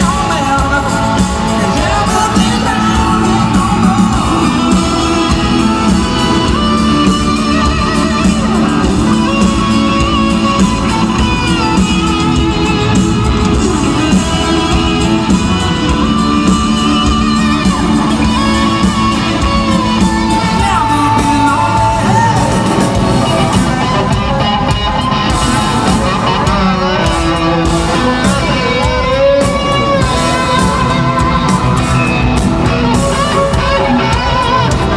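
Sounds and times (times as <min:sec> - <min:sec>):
man singing lead vocal: 0:00.0 - 0:10.6, 0:13.5 - 0:24.7, 0:25.7 - 0:34.9
country rock band playing: 0:00.0 - 0:34.9
guitar: 0:00.0 - 0:34.9.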